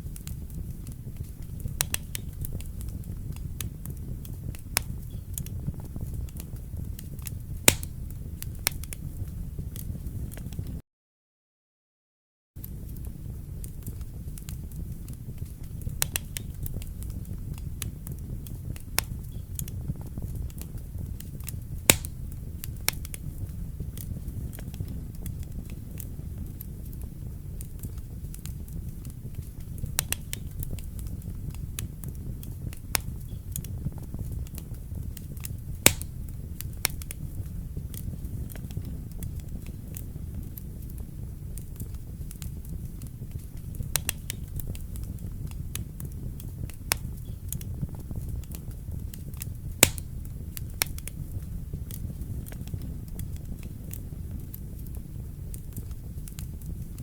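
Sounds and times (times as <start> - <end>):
wood fire crackling and popping: 0.0 - 10.8, 12.6 - 57.0.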